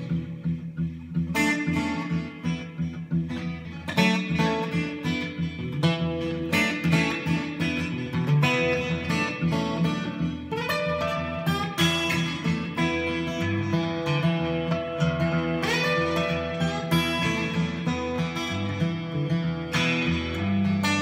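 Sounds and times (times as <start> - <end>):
acoustic guitar chords and notes: 0.0 - 21.0.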